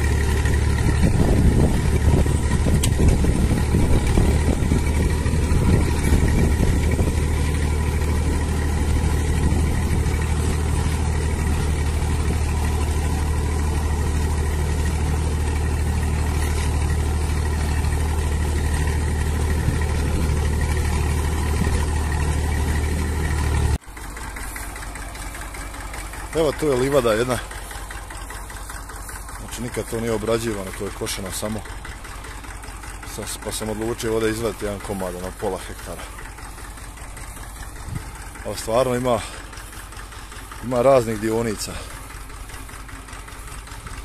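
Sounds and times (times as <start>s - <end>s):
tractor engine under load: 0.0s - 44.0s.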